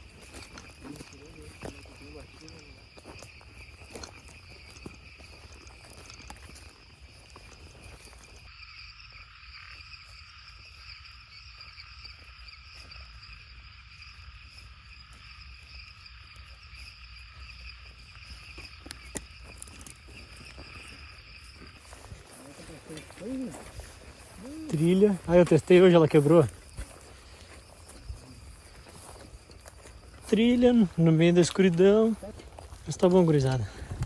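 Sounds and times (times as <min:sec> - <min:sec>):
crickets and insects trilling: 0:00.0 - 0:34.0.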